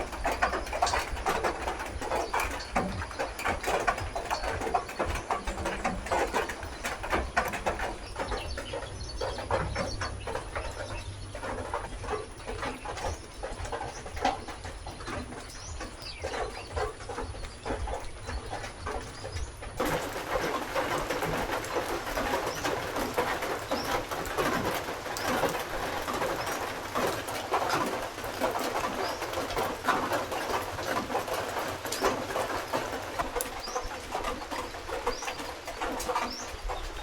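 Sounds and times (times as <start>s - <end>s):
steady crackling noise: 0.0s - 37.0s.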